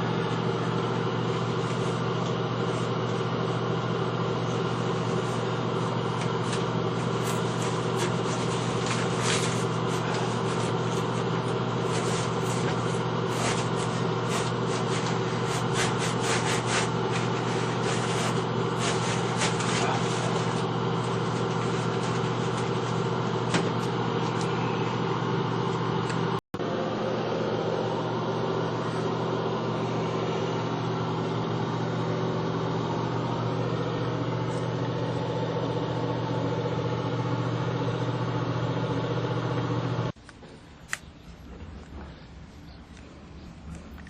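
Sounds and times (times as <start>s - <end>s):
motor hum: 0.0s - 44.0s.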